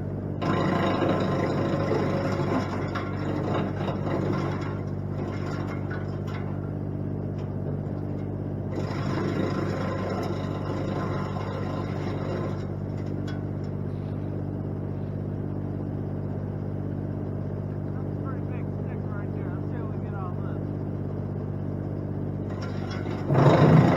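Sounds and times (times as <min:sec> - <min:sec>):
wood chipper engine running: 0:00.0 - 0:23.9.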